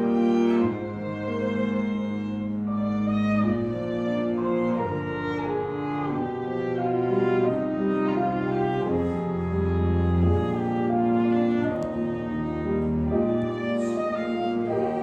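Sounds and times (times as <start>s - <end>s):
violin cello and piano melody: 0.0s - 15.0s.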